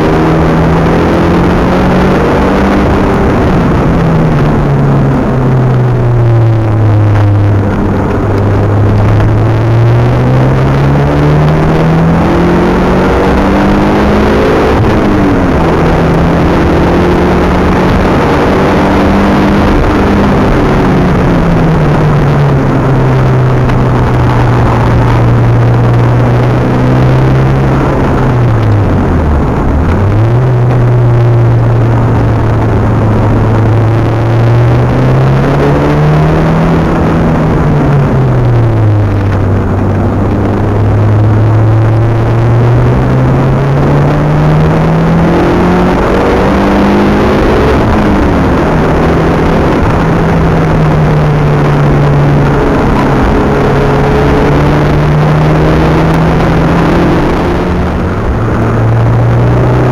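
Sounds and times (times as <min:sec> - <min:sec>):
car engine at speed: 0:00.0 - 0:59.9
road and wind noise: 0:00.0 - 0:59.9.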